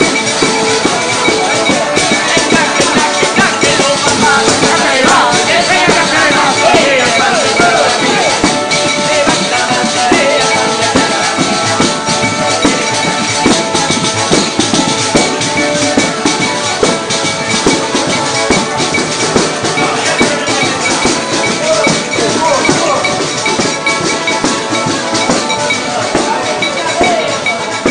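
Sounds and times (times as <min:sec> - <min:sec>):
bagpipe with drones: 0:00.0 - 0:27.9
frame drums with jingles: 0:00.0 - 0:27.9.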